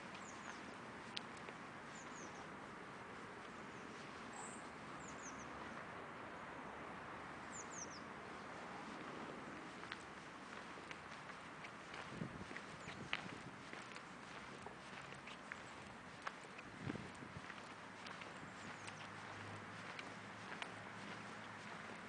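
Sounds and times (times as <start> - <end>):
small birds chirping: 0.0 - 5.8, 7.4 - 9.0, 9.6 - 22.0
faint background noise: 0.0 - 22.0.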